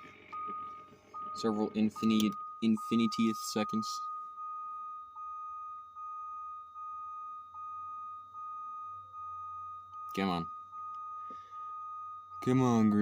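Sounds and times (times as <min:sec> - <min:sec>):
lower pulsing tone: 0:00.0 - 0:13.0
high warning chime tone: 0:00.2 - 0:13.0.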